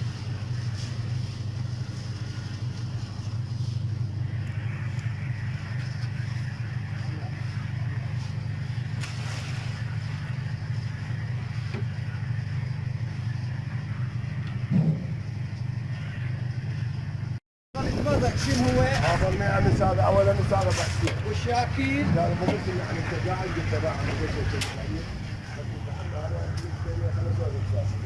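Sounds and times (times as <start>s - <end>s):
engine droning: 0.0s - 28.0s.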